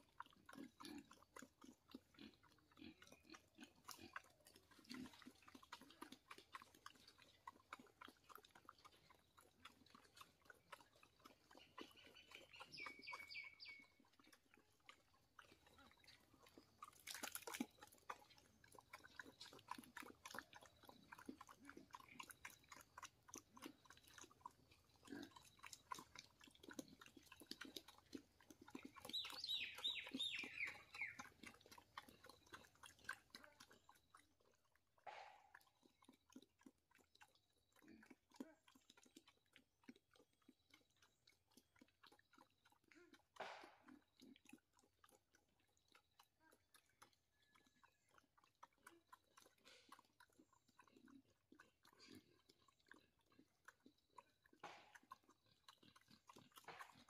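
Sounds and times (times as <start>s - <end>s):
pig chewing and smacking: 0.0s - 57.0s.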